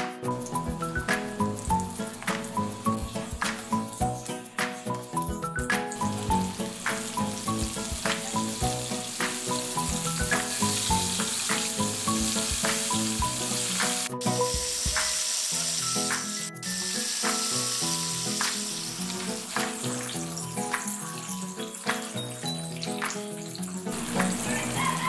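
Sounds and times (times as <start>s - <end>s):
light plucked background music: 0.0s - 25.0s
shrimp deep-frying in oil: 0.2s - 25.0s.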